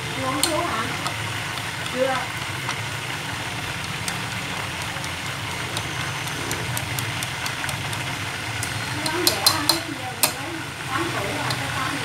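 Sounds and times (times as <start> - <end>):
chopsticks beating eggs in bowl: 0.0 - 12.0
low mechanical hum: 0.0 - 12.0.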